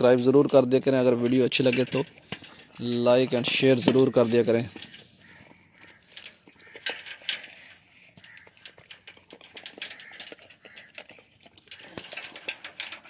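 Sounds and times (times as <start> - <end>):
dog eating from metal pan: 0.0 - 13.0.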